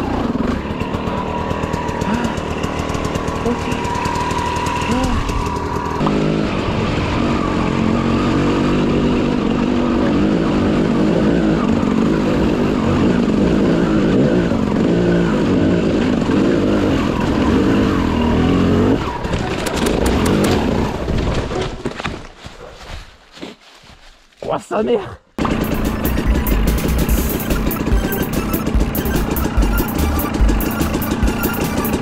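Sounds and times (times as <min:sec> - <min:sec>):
dirt bike engine revving: 0:00.0 - 0:21.2, 0:25.4 - 0:32.0.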